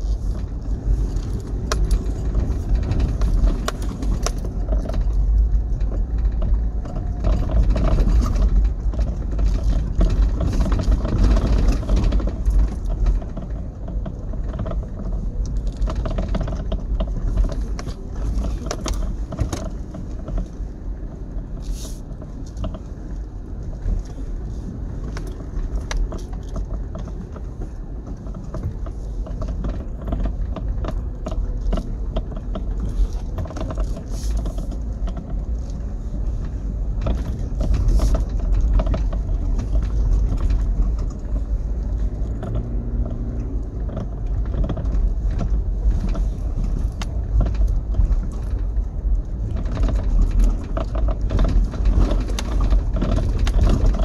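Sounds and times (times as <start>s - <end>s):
engine and tyres rumbling: 0.0s - 54.0s
vehicle knocks and rattles: 0.0s - 54.0s.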